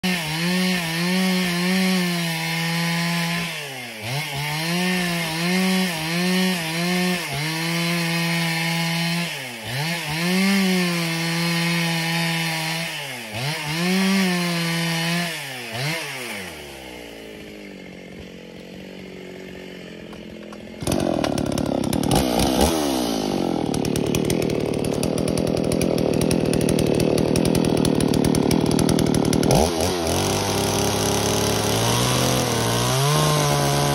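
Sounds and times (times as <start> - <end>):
chainsaw cutting timber: 0.0 - 33.9.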